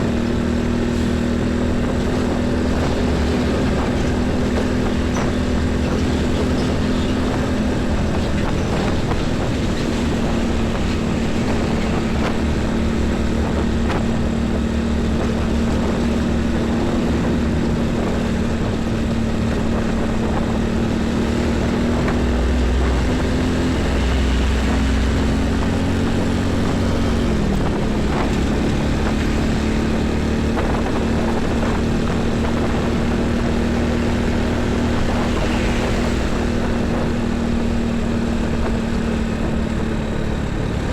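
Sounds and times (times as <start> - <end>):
heavy highway traffic: 0.0 - 40.9.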